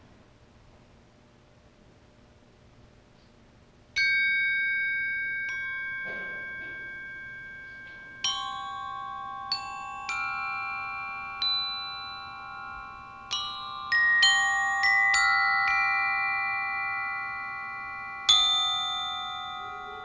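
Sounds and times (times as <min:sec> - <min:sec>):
glockenspiel notes ringing: 0:04.0 - 0:20.0.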